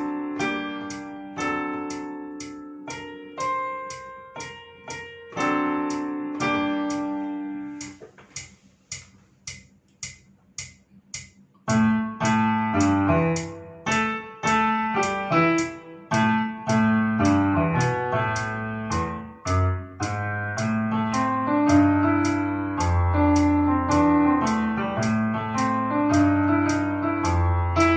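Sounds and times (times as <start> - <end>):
piano music: 0.0 - 8.1, 11.6 - 27.9
steady ticking beat: 0.0 - 27.9.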